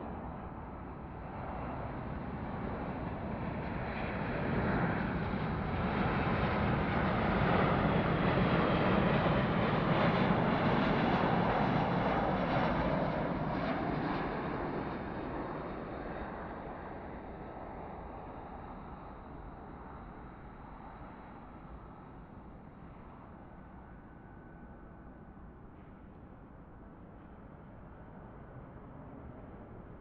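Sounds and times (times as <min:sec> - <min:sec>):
jet airliner approaching: 0:00.0 - 0:30.0.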